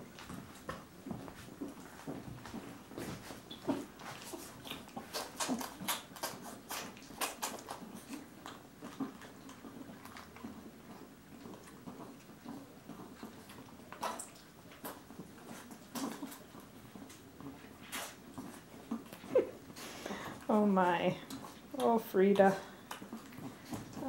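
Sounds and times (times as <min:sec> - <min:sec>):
puppies sucking and smacking: 0:00.0 - 0:24.0.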